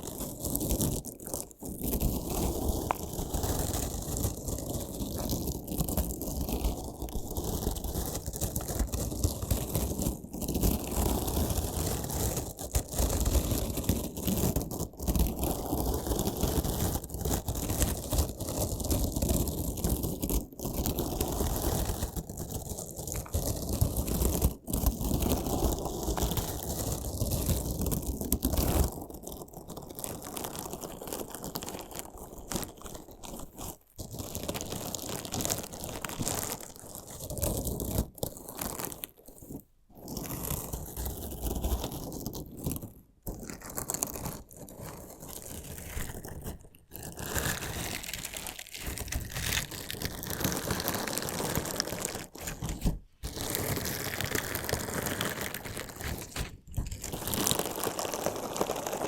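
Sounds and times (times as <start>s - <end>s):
crunchy slime crunching and crackling: 0.0s - 59.0s.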